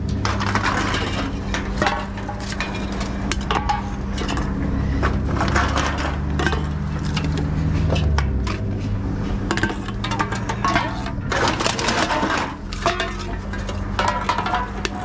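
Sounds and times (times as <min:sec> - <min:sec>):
cans and bottles clattering: 0:00.0 - 0:15.0.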